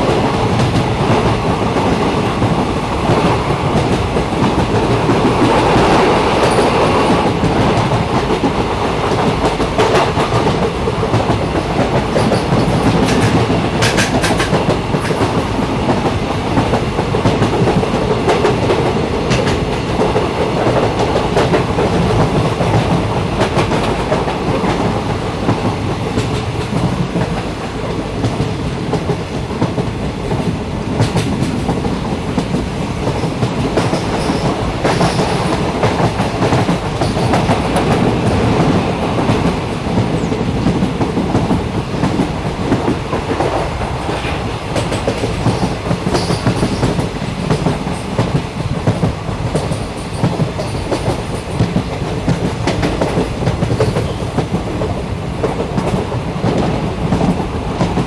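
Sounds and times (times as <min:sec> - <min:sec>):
train rumbling along track: 0:00.0 - 0:58.0
train wheels clicking: 0:00.0 - 0:58.0.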